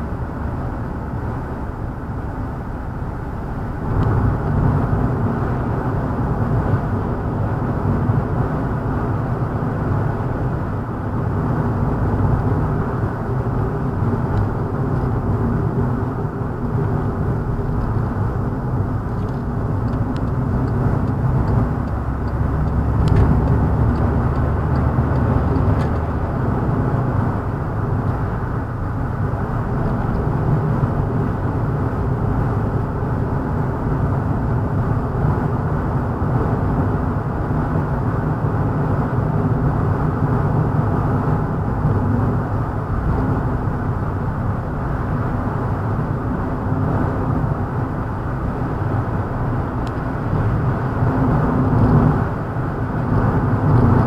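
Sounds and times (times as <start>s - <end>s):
moving vehicle rumble: 0.0s - 54.0s.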